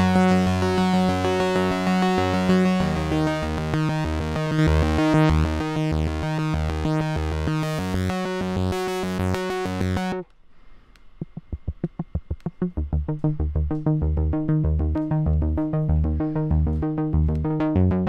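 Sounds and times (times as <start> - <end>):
synthesizer bass line: 0.0 - 10.3, 11.2 - 18.0.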